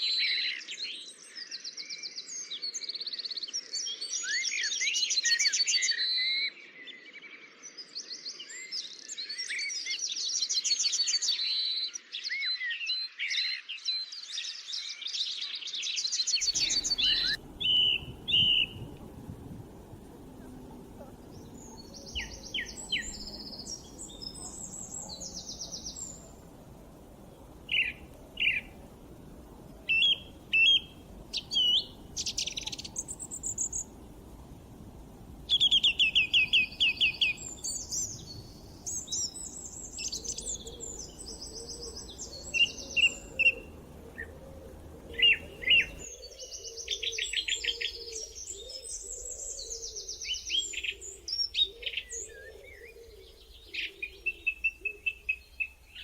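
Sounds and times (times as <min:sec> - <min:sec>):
songbirds singing and chirping: 0:00.0 - 0:56.0.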